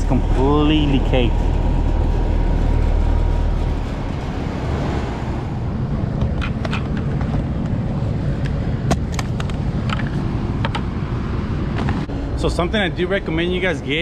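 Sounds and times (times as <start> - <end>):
air conditioner low rumble: 0.0 - 14.0.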